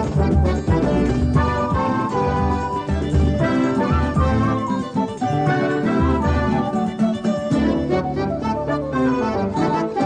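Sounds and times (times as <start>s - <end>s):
theme music with held notes: 0.0s - 10.0s.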